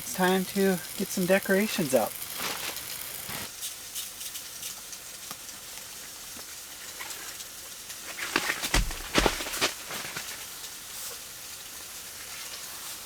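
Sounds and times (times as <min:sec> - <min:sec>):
wood stove fire crackling: 0:00.0 - 0:13.0.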